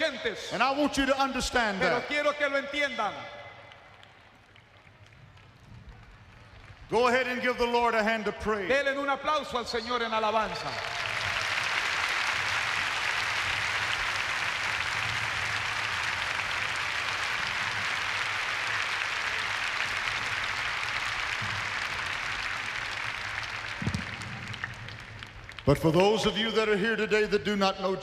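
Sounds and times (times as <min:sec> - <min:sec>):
congregation applauding: 0:00.0 - 0:28.0.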